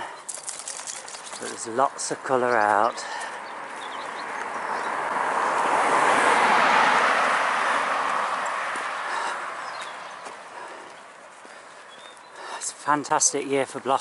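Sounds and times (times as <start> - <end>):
car passing on road: 1.4 - 12.9.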